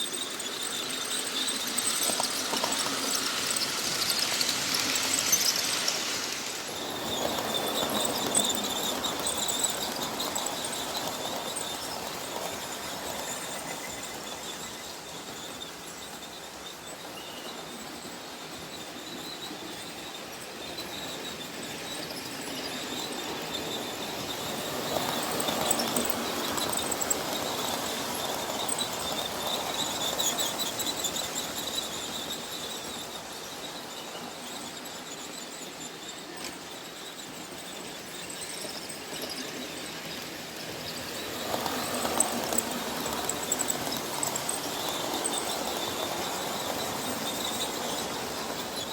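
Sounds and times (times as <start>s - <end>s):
model train motor whine: 0.0s - 48.9s.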